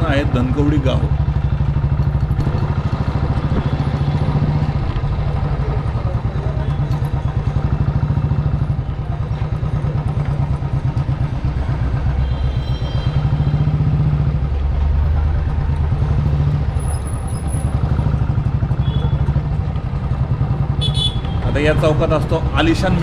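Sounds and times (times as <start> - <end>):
motorcycle engine at low speed: 0.0 - 23.0
street traffic: 0.0 - 23.0.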